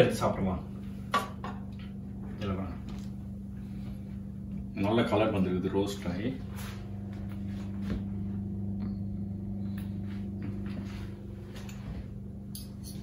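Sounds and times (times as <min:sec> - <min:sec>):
kitchen appliance humming: 0:00.0 - 0:13.0.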